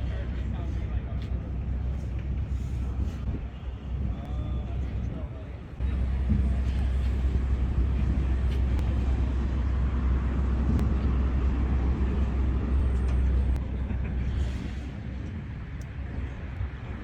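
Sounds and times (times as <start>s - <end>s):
ferry engine low rumble: 0.0s - 17.0s.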